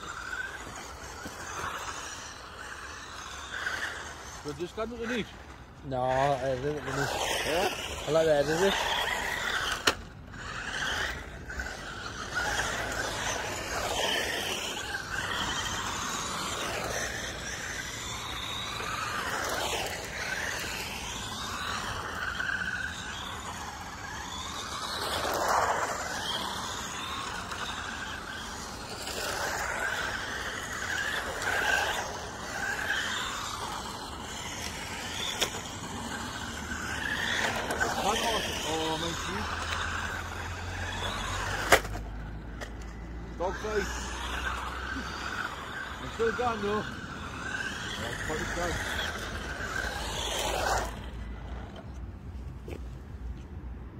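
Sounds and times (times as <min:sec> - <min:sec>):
rc car motors whining: 0:00.0 - 0:53.9.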